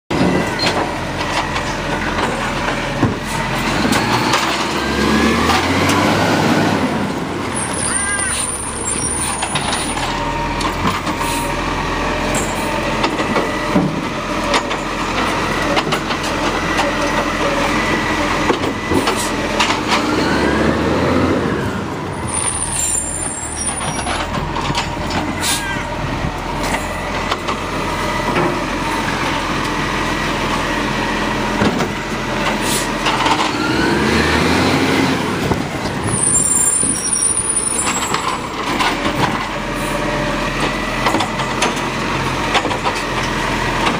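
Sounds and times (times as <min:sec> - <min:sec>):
garbage truck engine revving: 0:00.1 - 0:43.9.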